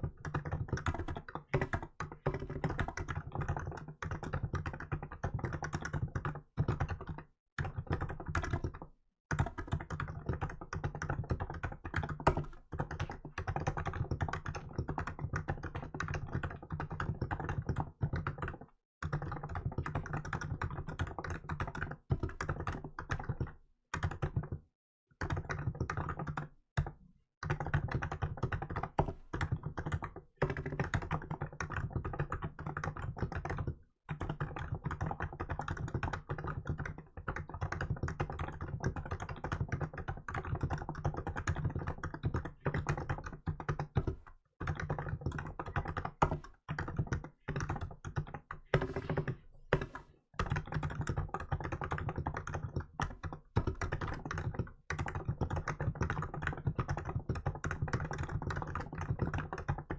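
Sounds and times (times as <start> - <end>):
fast typing on a keyboard: 0.0 - 59.9.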